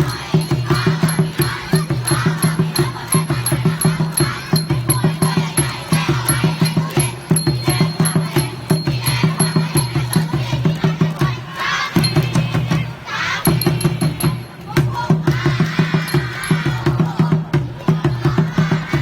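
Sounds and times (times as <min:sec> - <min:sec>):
crowd shouting a cheer: 0:00.0 - 0:19.0
fast drum beat: 0:00.0 - 0:19.0.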